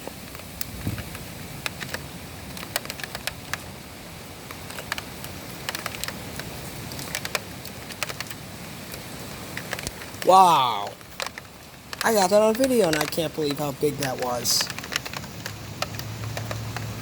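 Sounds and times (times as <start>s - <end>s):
rain falling: 0.0s - 17.0s
raindrops ticking on hard surfaces: 0.0s - 17.0s.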